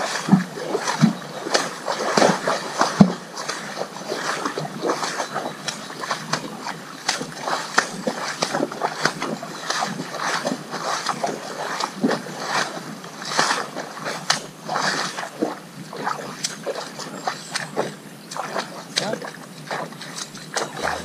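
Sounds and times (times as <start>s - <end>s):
hoof splashing in muddy water: 0.0s - 21.0s.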